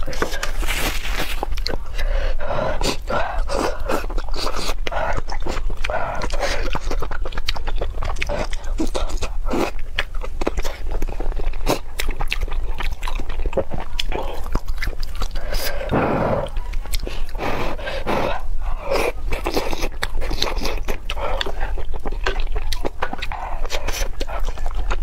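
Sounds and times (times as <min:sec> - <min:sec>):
wet chewing: 0:00.0 - 0:25.0.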